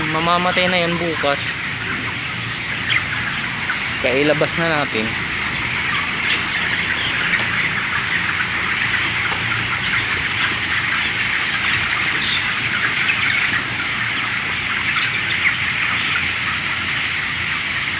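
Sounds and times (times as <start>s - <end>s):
chickens chirping and peeping: 0.0s - 17.9s.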